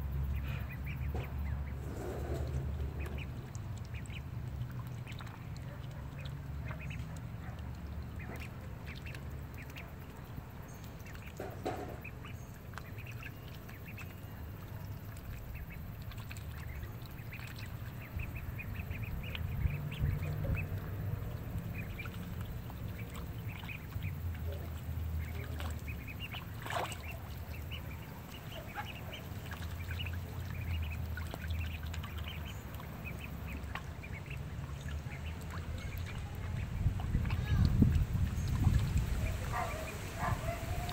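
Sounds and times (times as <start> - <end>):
steady low rumble: 0.0 - 11.4, 12.0 - 40.9
ducks calling: 0.2 - 10.2, 15.4 - 40.9.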